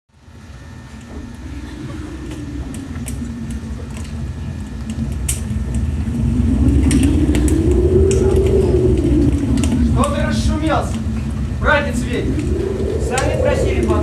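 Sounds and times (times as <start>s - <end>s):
rumble of flames: 0.1s - 14.0s
fire crackles: 0.5s - 14.0s.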